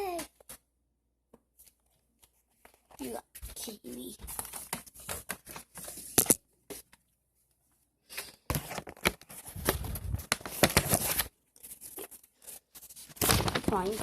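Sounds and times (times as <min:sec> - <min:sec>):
paper rustling: 0:01.5 - 0:07.0, 0:08.1 - 0:14.0.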